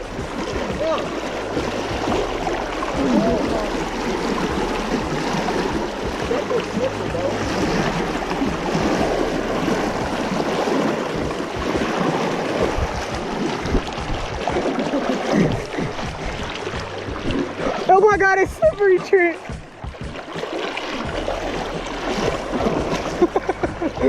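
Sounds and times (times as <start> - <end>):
river water rushing and splashing: 0.0 - 24.0.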